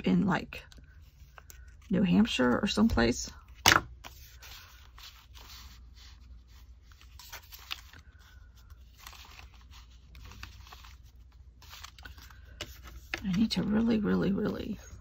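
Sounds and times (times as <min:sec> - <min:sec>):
paper rustling and scraping: 0:00.9 - 0:14.8.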